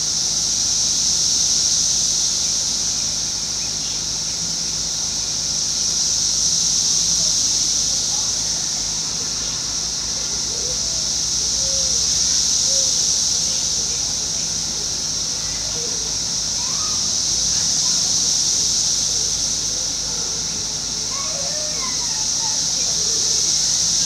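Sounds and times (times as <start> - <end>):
cicadas buzzing in chorus: 0.0 - 24.0.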